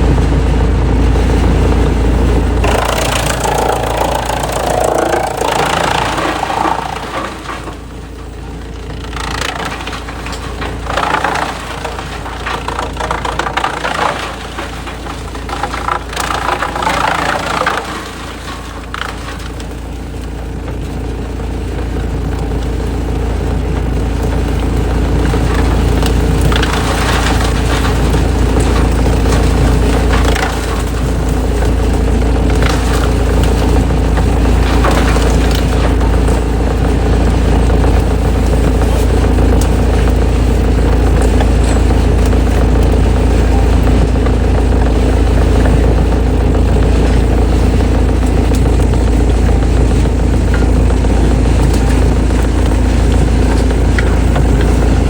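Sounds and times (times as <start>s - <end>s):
wood shredder engine running: 0.0s - 55.0s
wood cracking and splintering: 2.2s - 55.0s.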